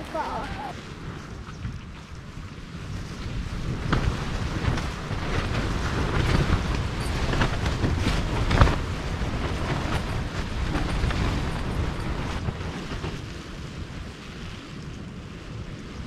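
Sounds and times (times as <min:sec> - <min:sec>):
tent fabric flapping and snapping: 0:00.0 - 0:16.0.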